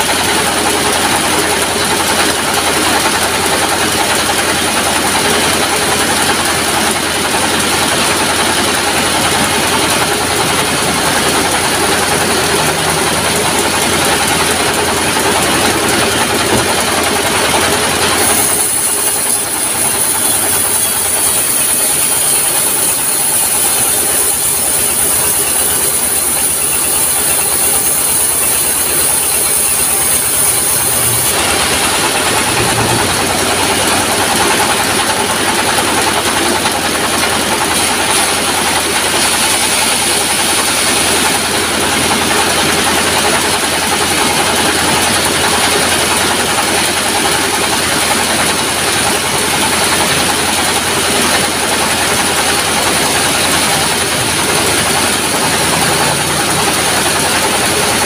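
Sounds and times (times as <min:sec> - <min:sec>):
band saw cutting log: 0:00.0 - 0:58.0
diesel engine running: 0:00.0 - 0:58.0.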